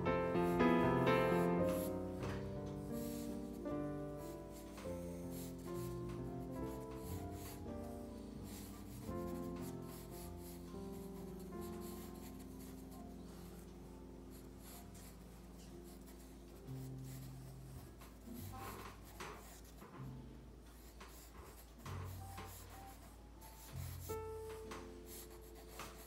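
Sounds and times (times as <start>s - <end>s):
soft background music: 0.0s - 26.0s
pencil scratching on paper: 0.1s - 26.0s.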